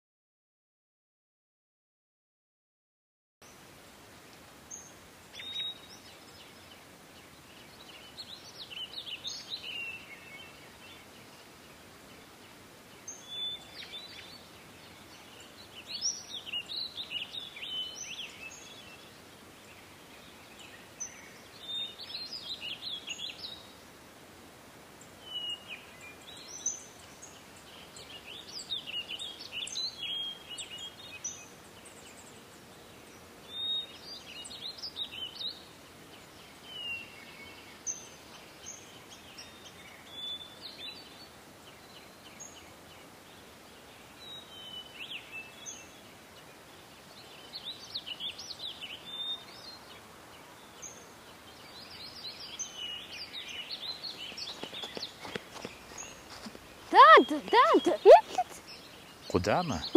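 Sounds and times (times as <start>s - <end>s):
faint hiss: 3.4s - 59.9s
songbirds chirping and whistling: 4.7s - 12.4s, 13.0s - 23.8s, 25.2s - 59.9s.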